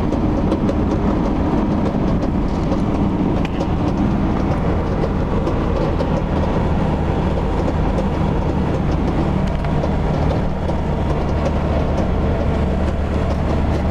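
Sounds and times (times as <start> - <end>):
irregular clicking from dashboard: 0.0 - 13.9
van engine and road drone: 0.0 - 13.9.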